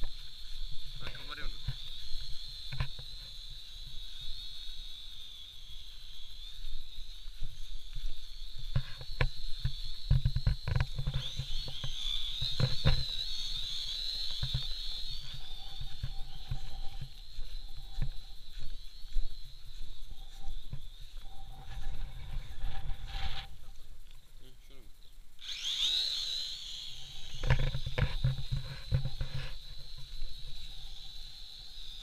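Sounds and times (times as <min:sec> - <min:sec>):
toy drone buzzing: 0:00.0 - 0:23.8, 0:25.3 - 0:32.0.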